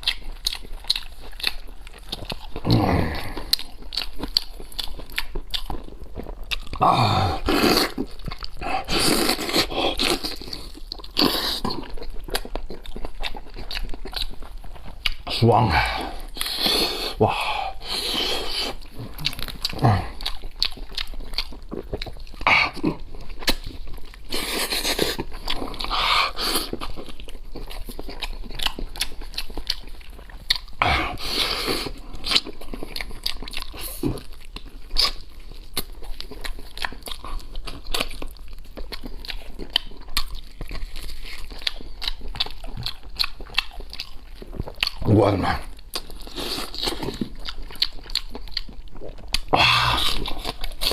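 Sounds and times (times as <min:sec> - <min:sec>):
person chewing and lip-smacking: 0:00.0 - 0:50.9.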